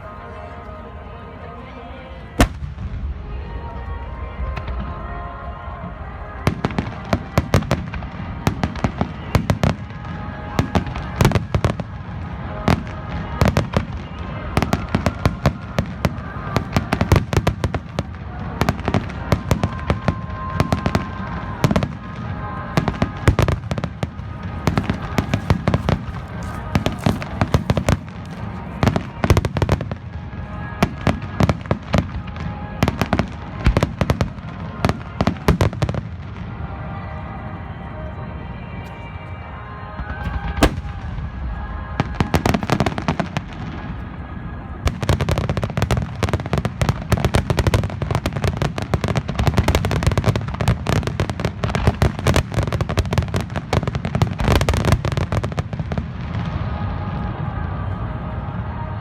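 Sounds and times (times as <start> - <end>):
music playing: 0.0 - 59.0
fireworks bangs: 2.4 - 37.3, 40.0 - 58.0.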